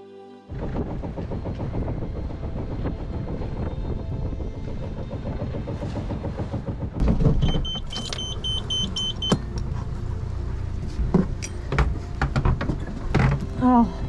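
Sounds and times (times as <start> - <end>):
boat engine rumbling: 0.5 - 14.0.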